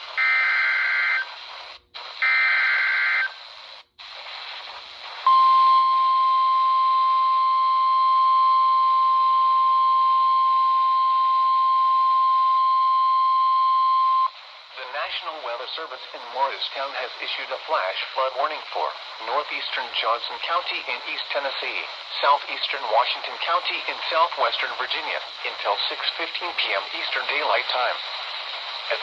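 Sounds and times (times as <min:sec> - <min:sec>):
radio hiss: 0:00.0 - 0:06.4, 0:10.7 - 0:29.0.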